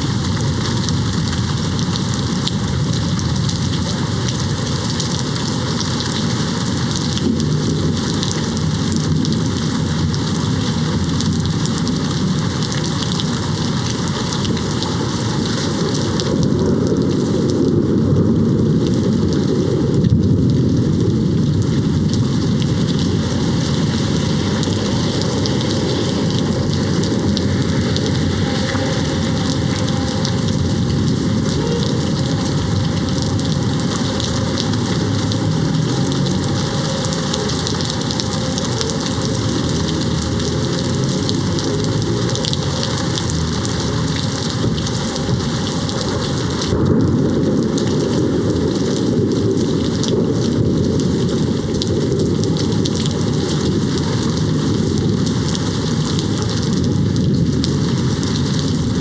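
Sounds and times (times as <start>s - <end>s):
distant thunder rumble: 0.0s - 59.0s
heavy rain on window: 0.0s - 59.0s.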